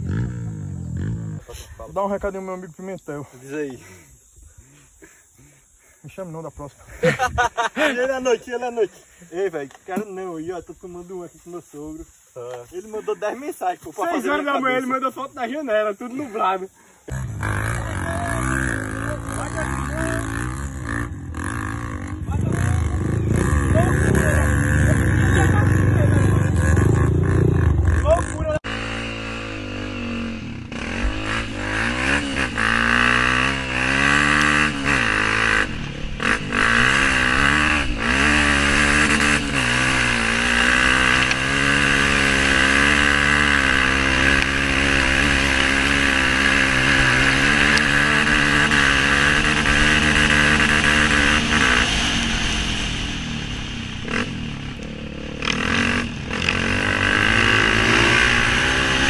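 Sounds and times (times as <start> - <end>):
dirt bike engine revving: 0.0 - 2.7, 14.0 - 59.0.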